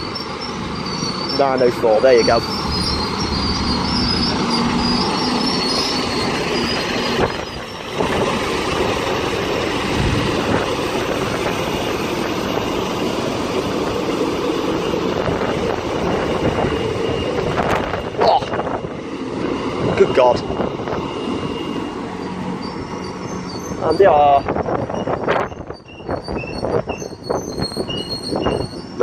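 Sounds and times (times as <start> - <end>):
wheel squeal: 0.0 - 18.8, 20.0 - 29.0
train wheels on rails: 0.0 - 29.0.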